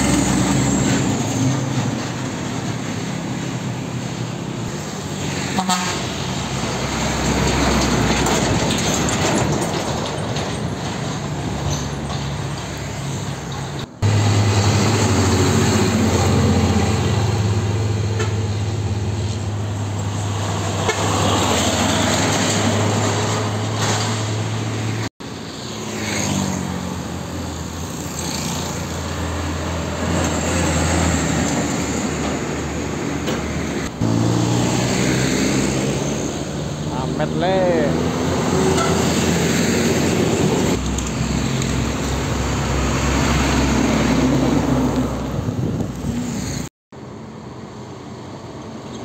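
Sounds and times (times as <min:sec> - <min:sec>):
diesel truck engines passing: 0:00.0 - 0:49.0
tyre noise on road: 0:00.0 - 0:49.0.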